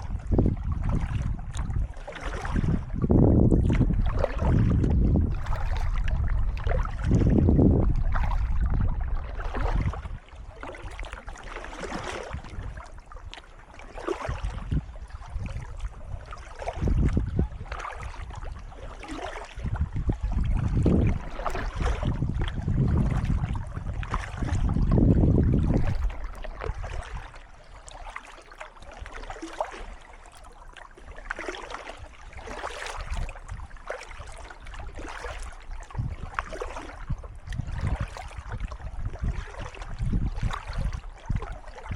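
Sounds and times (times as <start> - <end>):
paddle splashing in water: 0.0 - 41.9.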